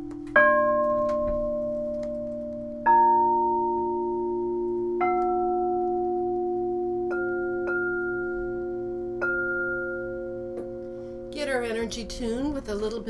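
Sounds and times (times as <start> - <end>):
singing bowls struck and ringing: 0.1 - 11.4.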